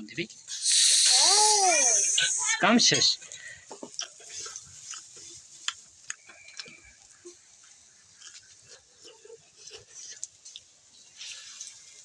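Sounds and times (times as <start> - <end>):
food frying in hot oil: 0.4 - 2.7, 3.7 - 12.0.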